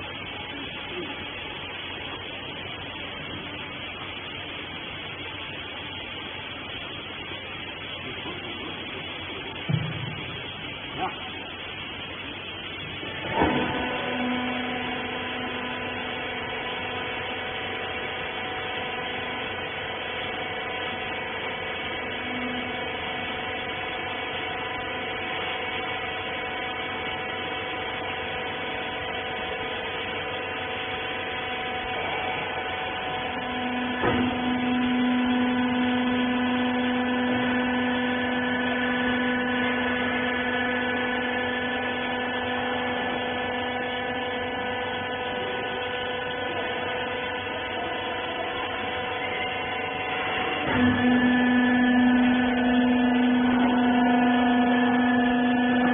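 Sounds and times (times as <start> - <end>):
hydraulic baler humming: 0.0 - 55.9.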